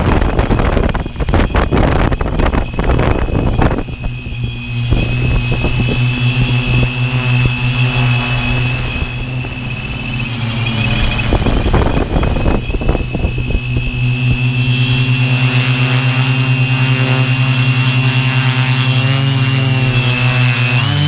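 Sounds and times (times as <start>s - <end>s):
drone motors humming and whining: 0.0s - 21.0s
wind gusts on microphone: 0.0s - 21.0s.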